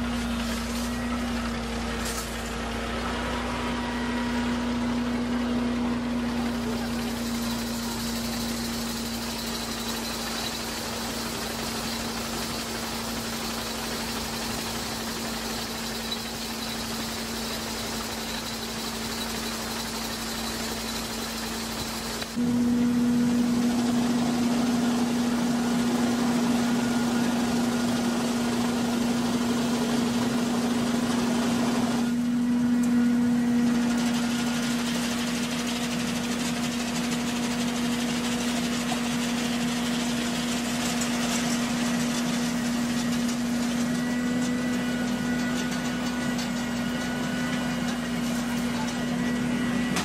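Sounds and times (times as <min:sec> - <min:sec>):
harvester engine drone: 0:00.0 - 0:50.0.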